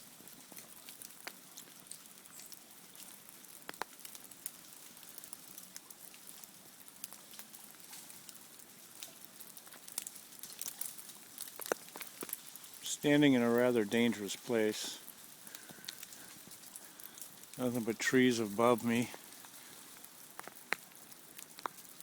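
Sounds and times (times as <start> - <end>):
ice-coated branches crackling: 0.0 - 22.0.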